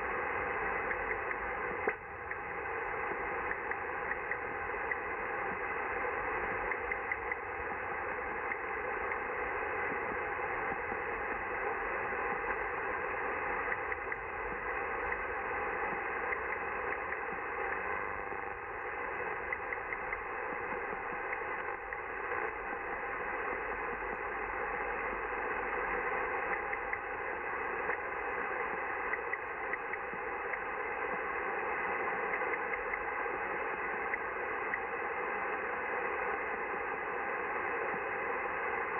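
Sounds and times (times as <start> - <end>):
irregular ticking radio signal: 0.0 - 38.9
radio static hiss: 0.0 - 38.9.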